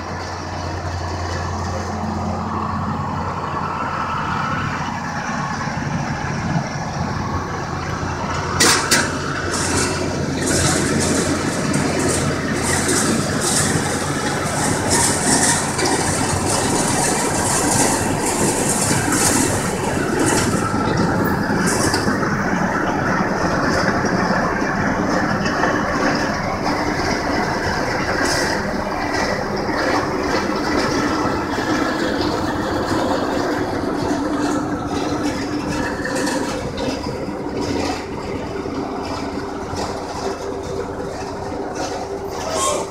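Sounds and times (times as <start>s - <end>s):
tractor diesel engine under load: 0.0s - 42.9s
baler mechanical rattle: 4.5s - 42.9s.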